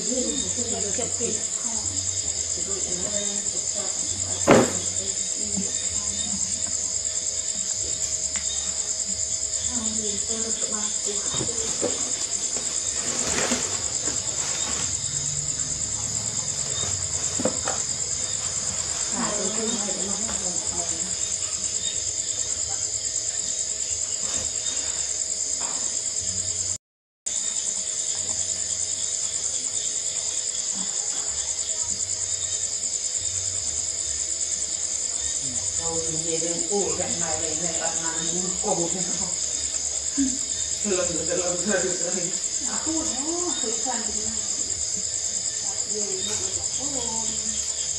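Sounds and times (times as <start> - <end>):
crickets chirring: 0.0 - 47.9.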